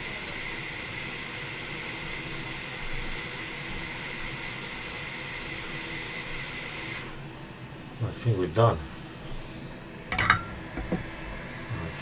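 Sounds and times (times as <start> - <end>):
hot air station hissing with whine: 0.0 - 12.0.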